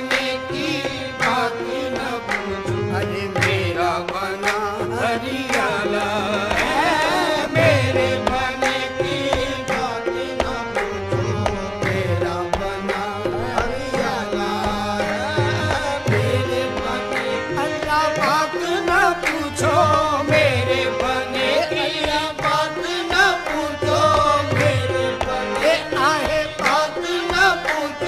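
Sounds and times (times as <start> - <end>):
person singing devotional song: 0.0 - 28.0
tabla beat: 0.0 - 28.0.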